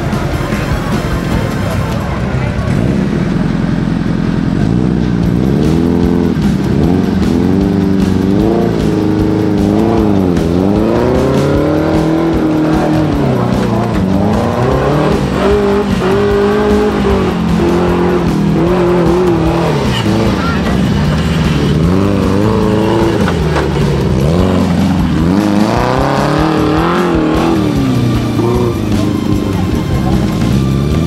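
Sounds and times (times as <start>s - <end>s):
buggy engine revving: 0.0s - 31.0s.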